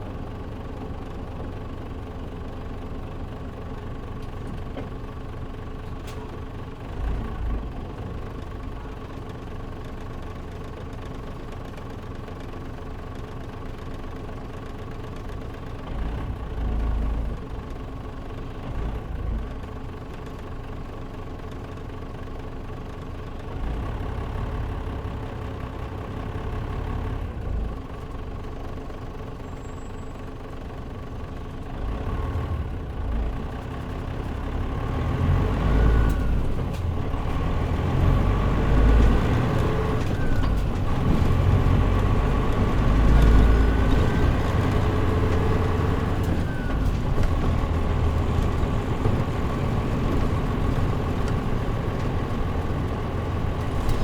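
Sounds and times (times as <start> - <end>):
bus diesel engine humming: 0.0 - 54.0.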